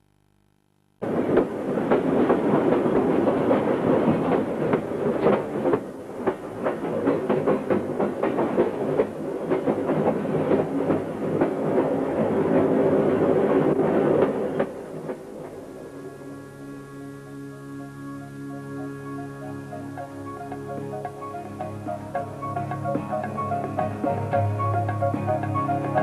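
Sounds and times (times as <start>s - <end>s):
train rattling on tracks: 1.0s - 15.8s, 19.3s - 26.0s.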